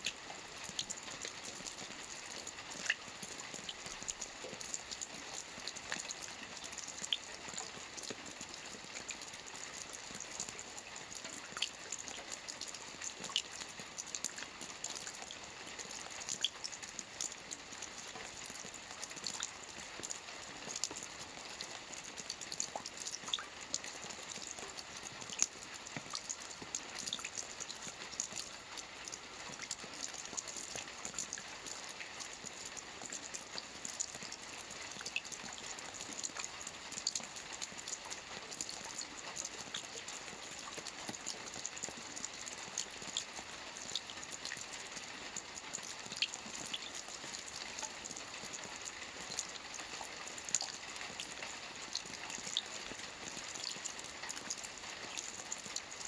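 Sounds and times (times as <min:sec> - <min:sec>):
soft rain on a roof: 0:00.0 - 0:56.0.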